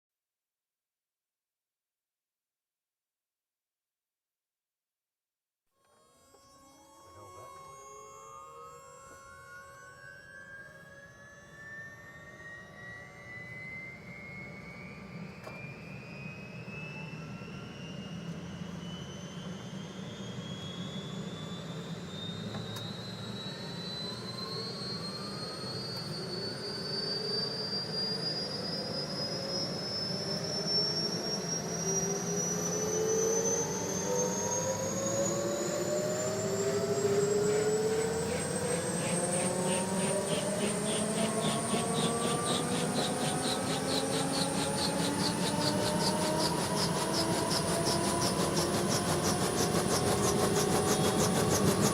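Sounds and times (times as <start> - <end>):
helicopter turbine whine rising: 6.4 - 51.9.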